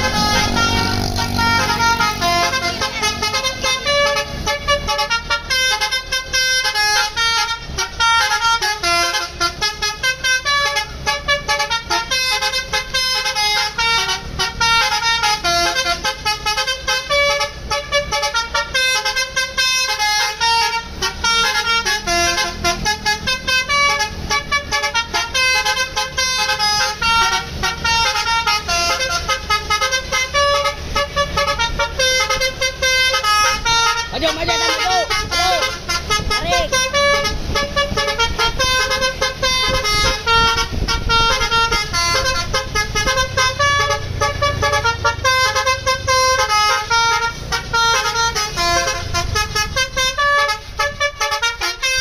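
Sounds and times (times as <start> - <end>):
bus engine rumble: 0.0 - 52.0
multi-tone air horn melody: 0.0 - 52.0.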